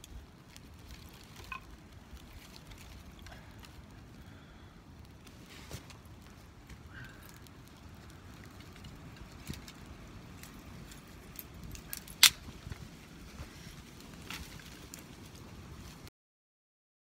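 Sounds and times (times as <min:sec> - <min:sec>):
campfire crackling: 0:00.0 - 0:16.1.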